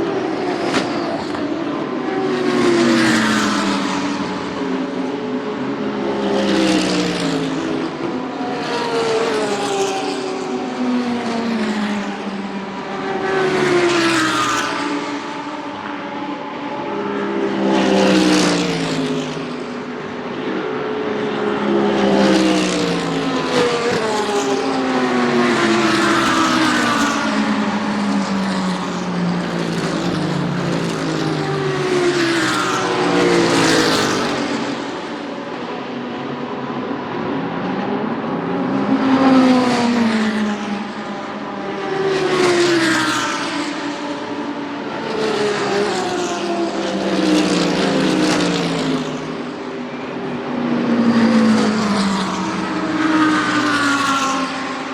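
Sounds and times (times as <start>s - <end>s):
race cars passing by: 0.0s - 54.9s.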